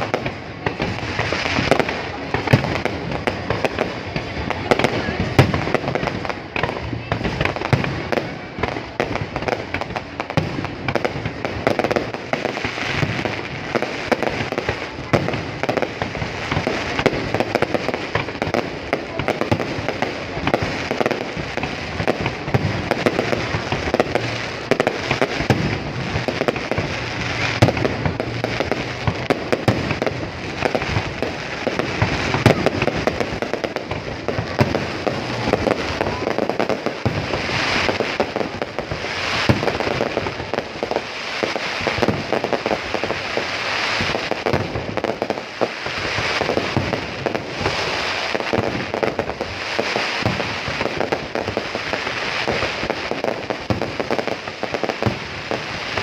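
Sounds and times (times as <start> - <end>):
fireworks barrage: 0.0 - 56.0.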